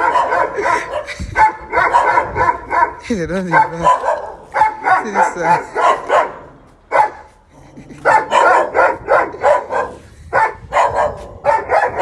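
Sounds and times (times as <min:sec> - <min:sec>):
dogs barking angrily: 0:00.0 - 0:12.0.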